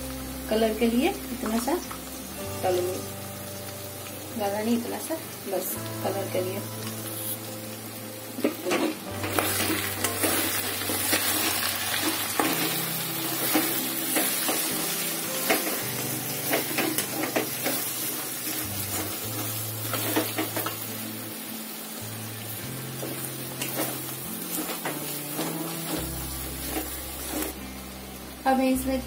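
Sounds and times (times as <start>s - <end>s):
oil sizzling: 0.0s - 29.0s.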